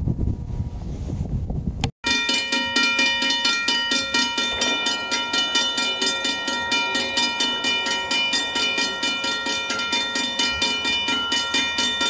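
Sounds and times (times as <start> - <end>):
crossing bell ringing: 2.0 - 12.0.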